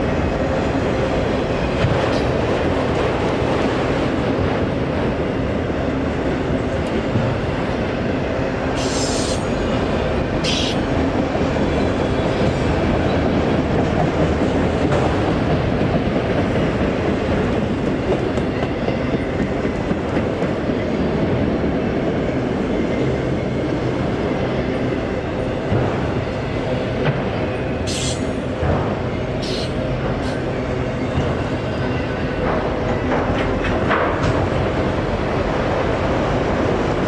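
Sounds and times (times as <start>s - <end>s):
freight train rumble and clatter: 0.0s - 37.0s.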